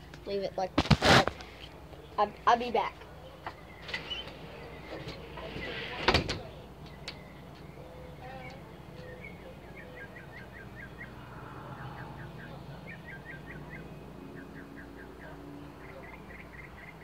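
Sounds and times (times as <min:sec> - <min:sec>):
songbird chirping: 0:01.4 - 0:17.0.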